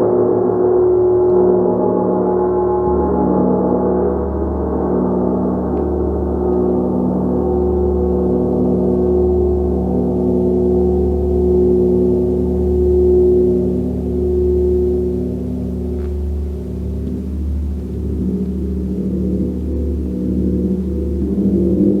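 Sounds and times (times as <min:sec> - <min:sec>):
deep low hum: 0:00.0 - 0:22.0.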